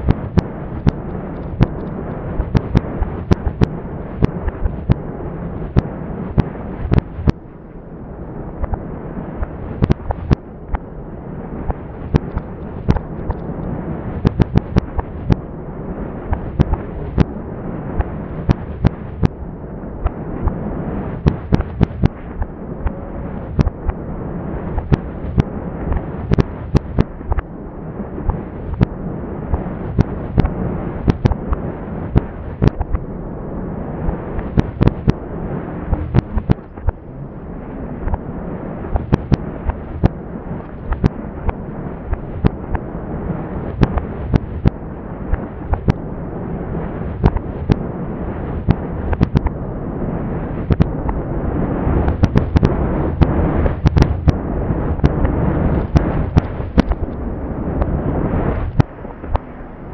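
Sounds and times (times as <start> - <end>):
low rumble: 0.0 - 59.9.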